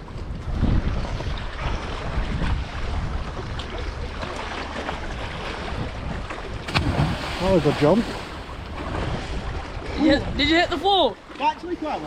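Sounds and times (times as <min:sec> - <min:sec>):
wind rumbling on microphone: 0:00.0 - 0:11.3
lapping lake water: 0:00.0 - 0:12.0.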